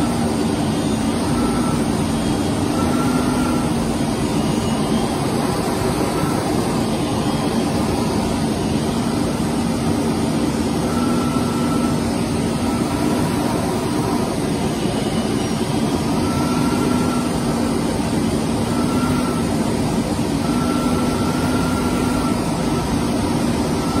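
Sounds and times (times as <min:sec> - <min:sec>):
faint high engine tone: 0:00.0 - 0:24.0
jet engine hum in flight: 0:00.0 - 0:24.0.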